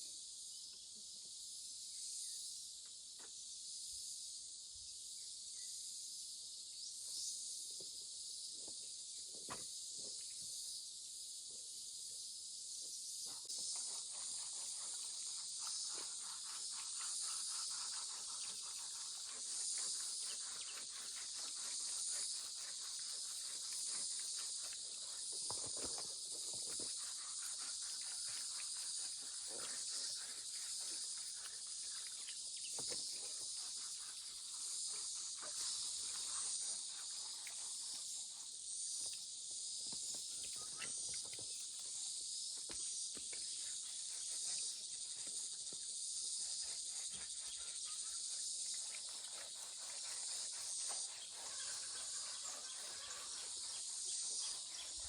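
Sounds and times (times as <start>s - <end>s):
insects chirring: 0.2s - 55.0s.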